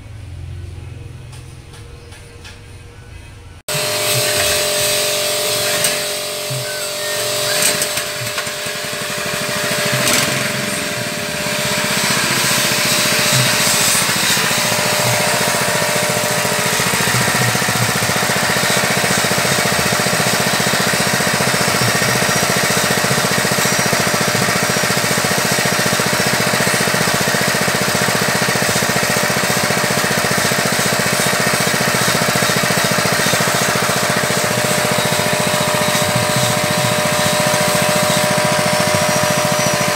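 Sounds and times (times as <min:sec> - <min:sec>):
small petrol engine running: 0:03.7 - 0:39.9.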